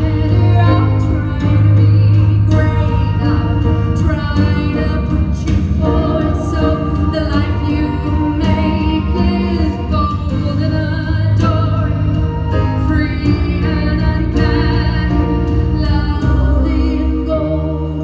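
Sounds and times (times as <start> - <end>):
bass line: 0.0 - 18.0
live band playing pop song: 0.0 - 18.0.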